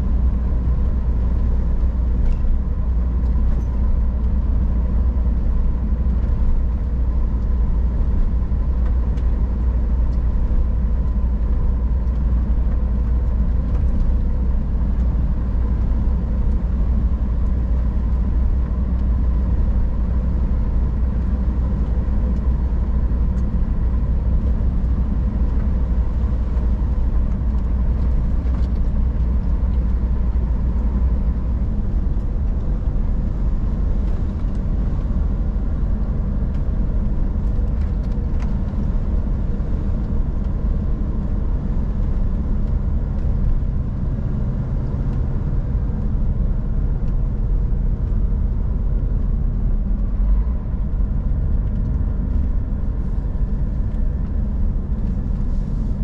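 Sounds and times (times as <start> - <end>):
road noise: 0.0 - 56.0
truck diesel engine droning: 0.0 - 56.0.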